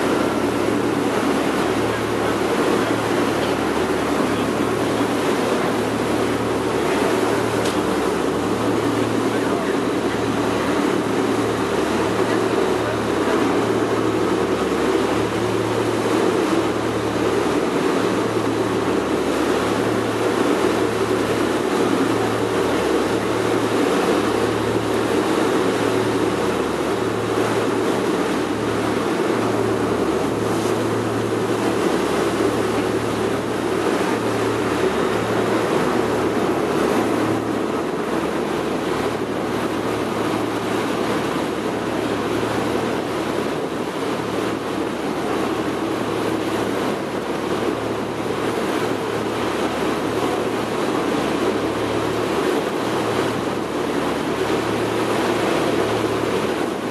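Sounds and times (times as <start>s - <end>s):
boat engine humming: 0.0s - 56.9s
water rushing along hull: 0.0s - 56.9s.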